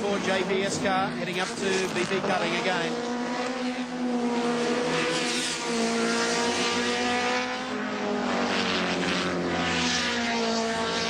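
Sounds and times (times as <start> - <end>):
racing car engines: 0.0 - 11.0.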